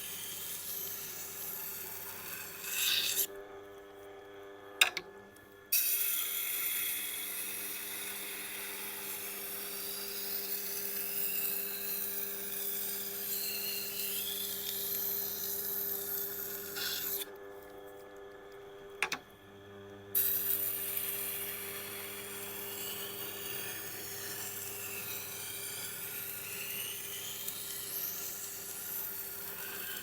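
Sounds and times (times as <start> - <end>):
knife grinding on sharpening wheel: 0.0 - 3.3, 5.7 - 17.3, 20.2 - 30.0.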